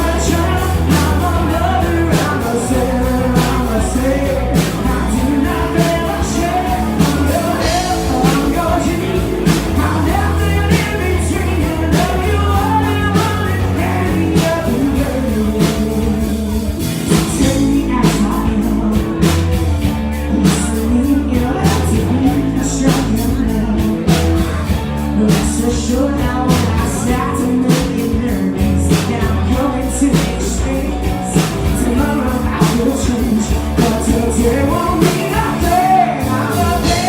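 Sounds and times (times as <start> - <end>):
live rock band playing: 0.0 - 37.0
person singing: 0.0 - 37.0
steady drum beat: 0.0 - 37.0.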